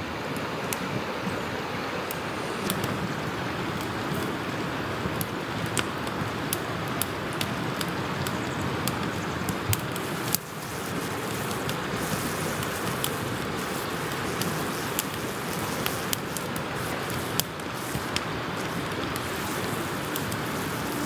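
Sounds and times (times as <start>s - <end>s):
campfire crackling and popping: 0.3s - 21.0s.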